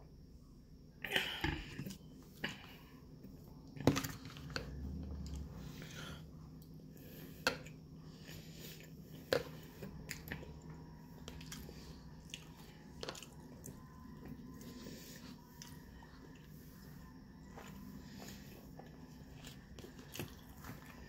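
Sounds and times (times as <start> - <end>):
chewing and eating: 1.8 - 21.0.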